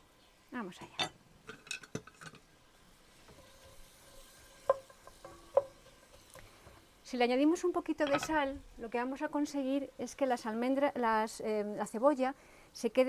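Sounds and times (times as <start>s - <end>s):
onion sizzling in pan: 0.0s - 13.0s.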